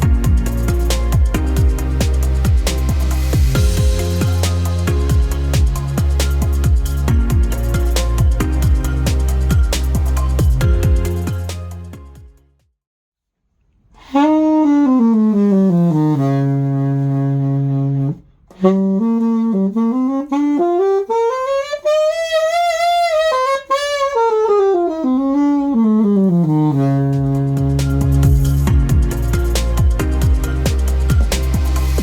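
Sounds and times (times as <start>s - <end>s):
alto saxophone solo: 0.0s - 11.4s, 14.0s - 32.0s.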